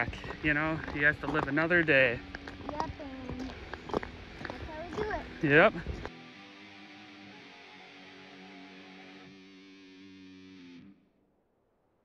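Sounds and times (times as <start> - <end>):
distorted electric guitar music: 0.0 - 11.2.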